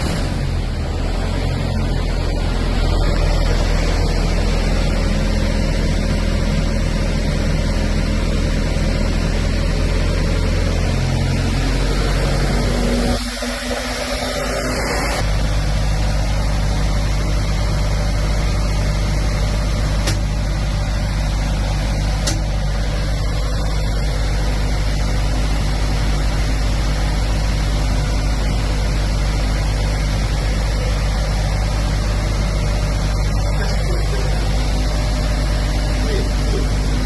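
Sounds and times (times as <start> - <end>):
diesel generator humming: 0.0 - 37.0.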